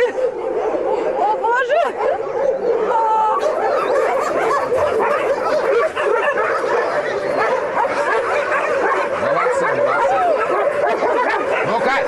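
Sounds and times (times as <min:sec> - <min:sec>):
many dogs barking and yelping: 0:00.0 - 0:12.0.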